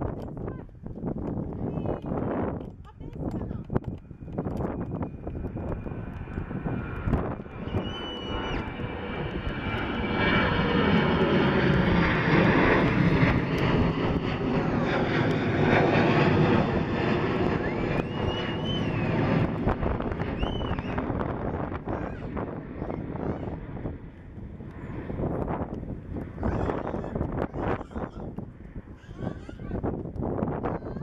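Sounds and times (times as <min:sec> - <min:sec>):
jet passing overhead: 0:03.2 - 0:31.0.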